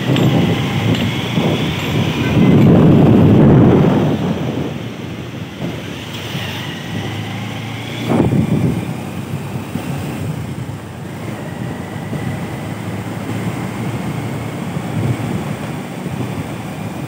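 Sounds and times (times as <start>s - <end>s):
vehicle road noise: 0.0s - 17.0s
wind buffeting microphone: 0.0s - 17.0s.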